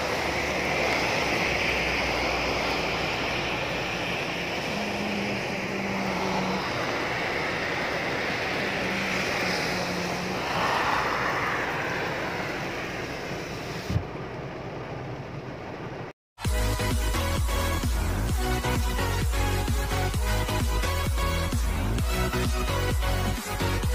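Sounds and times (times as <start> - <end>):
heavy rain: 0.0 - 23.9.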